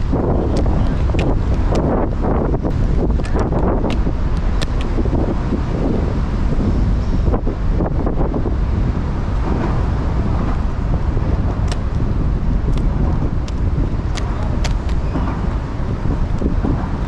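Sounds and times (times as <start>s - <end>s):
roller skate wheels on paving: 0.0s - 17.0s
wind on microphone: 0.0s - 17.0s.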